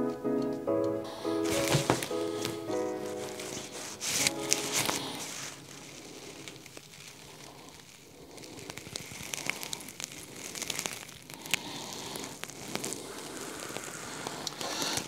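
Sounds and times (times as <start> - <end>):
faint handling crackle: 1.1 - 15.0.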